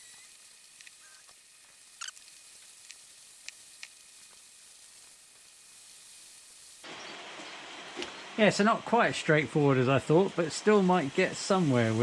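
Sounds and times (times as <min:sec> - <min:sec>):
steady hiss: 0:00.0 - 0:07.0, 0:08.4 - 0:12.0.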